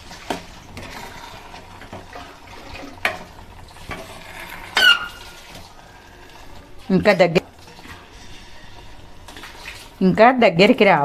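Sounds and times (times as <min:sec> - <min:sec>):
ladle scraping a pot: 0:00.0 - 0:10.0
soft steady sizzle: 0:00.0 - 0:11.0.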